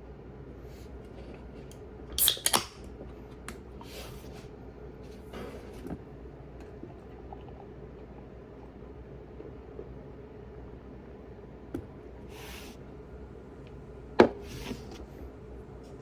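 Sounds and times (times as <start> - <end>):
steady low hum: 2.8 - 16.0.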